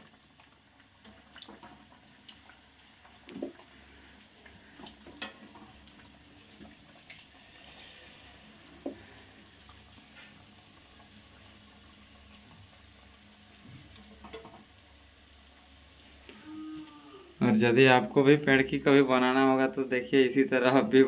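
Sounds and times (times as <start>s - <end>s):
oil sizzling: 0.0s - 19.3s.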